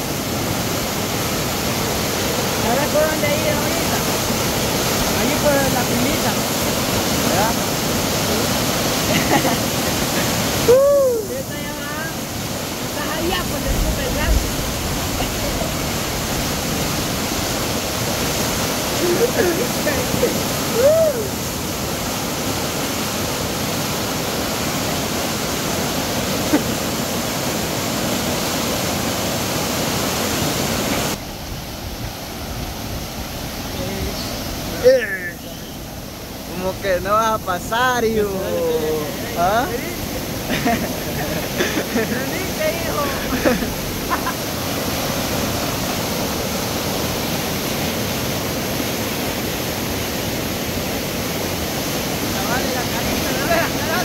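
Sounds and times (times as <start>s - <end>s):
river rushing in flood: 0.0s - 54.0s.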